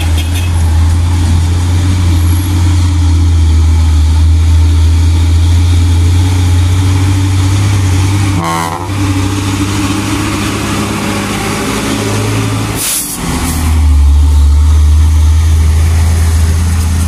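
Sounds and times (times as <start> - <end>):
diesel truck engine: 0.0 - 17.0.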